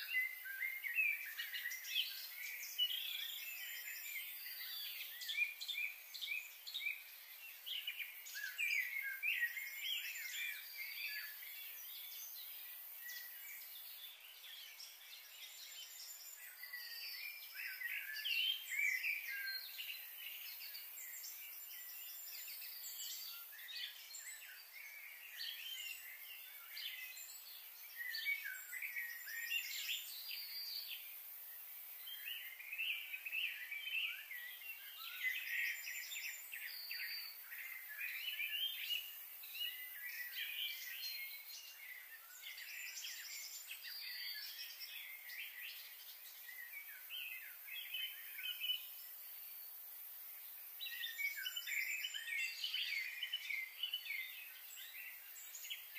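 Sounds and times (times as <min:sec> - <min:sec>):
birds chirping and singing: 0:00.0 - 0:49.8, 0:50.4 - 0:55.9
faint steady hiss: 0:00.0 - 0:55.9.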